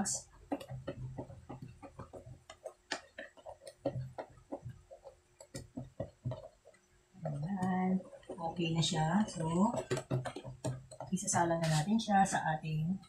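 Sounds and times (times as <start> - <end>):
spoon scraping plastic bowl: 0.0 - 12.4.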